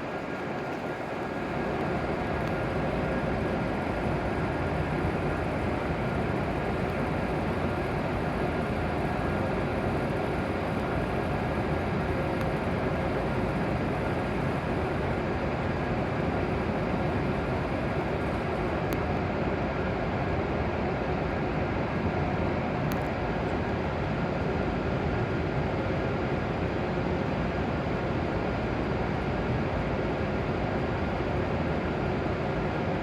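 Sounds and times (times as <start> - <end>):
faint hum: 0.0 - 33.0
train mechanical running noise: 0.0 - 33.0.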